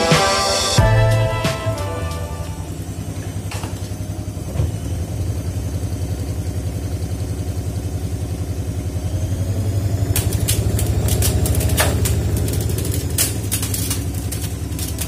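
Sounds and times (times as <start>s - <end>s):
washing machine spinning: 2.0s - 15.0s.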